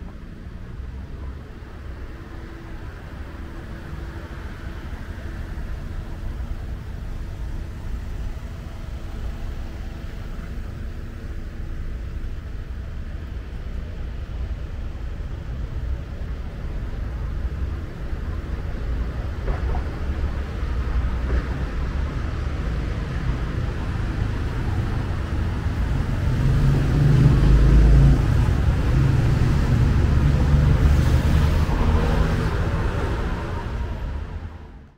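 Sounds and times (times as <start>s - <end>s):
street traffic rumble: 0.0s - 34.9s.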